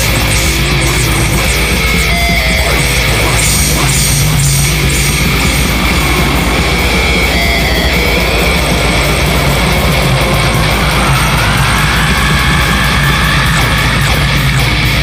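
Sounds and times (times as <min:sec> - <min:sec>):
distorted electric guitars: 0:00.0 - 0:15.0
fast dense drumming: 0:00.0 - 0:15.0.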